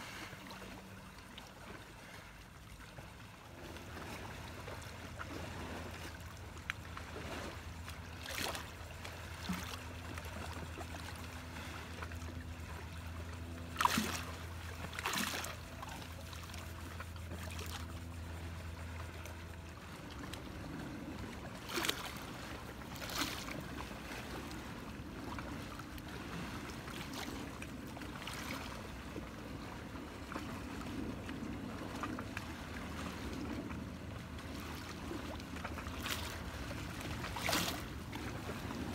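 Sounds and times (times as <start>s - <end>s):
low steady hum: 0.0s - 38.9s
water lapping against rocks: 0.0s - 38.9s.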